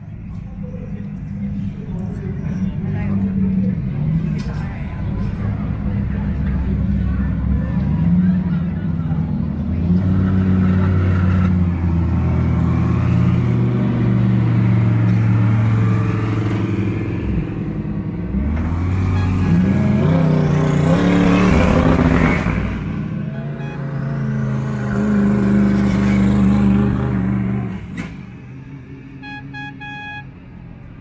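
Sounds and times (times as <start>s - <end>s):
race car engines at low revs: 0.0s - 31.0s
race car engine revving: 1.0s - 28.3s.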